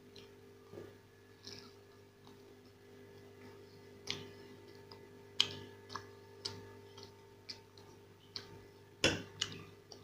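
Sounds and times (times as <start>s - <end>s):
steady low hum: 0.0s - 10.0s
chewing and lip-smacking: 1.4s - 10.0s.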